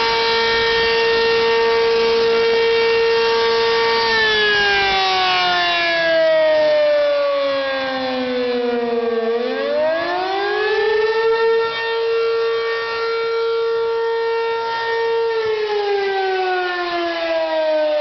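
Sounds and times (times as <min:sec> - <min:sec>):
tornado siren wailing: 0:00.0 - 0:18.0.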